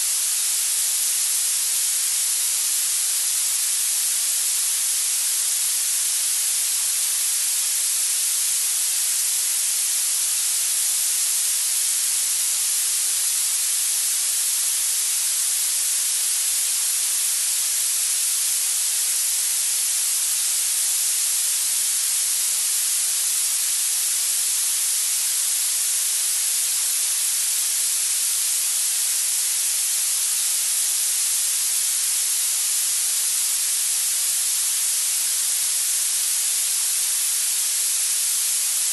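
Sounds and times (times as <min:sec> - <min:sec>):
steady synthetic hiss: 0:00.0 - 0:38.9.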